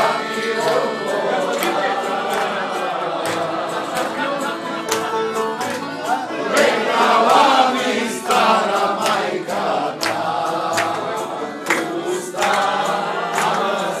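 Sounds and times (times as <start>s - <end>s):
group singing with instruments: 0.0s - 14.0s.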